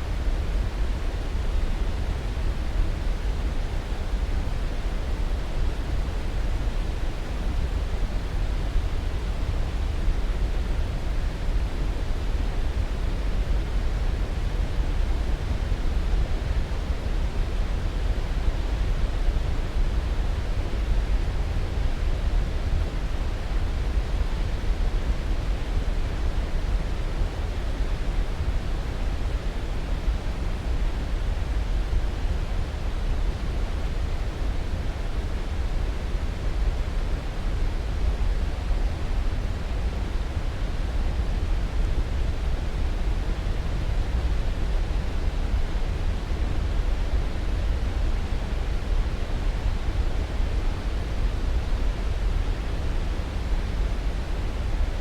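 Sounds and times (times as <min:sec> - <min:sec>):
steady hiss noise: 0:00.0 - 0:55.0.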